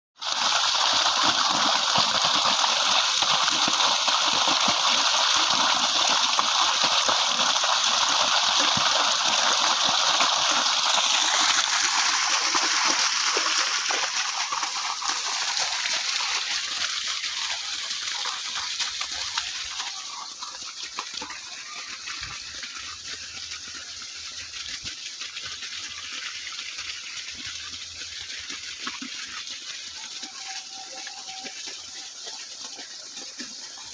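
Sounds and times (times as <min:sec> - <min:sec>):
water rushing: 0:00.2 - 0:33.9.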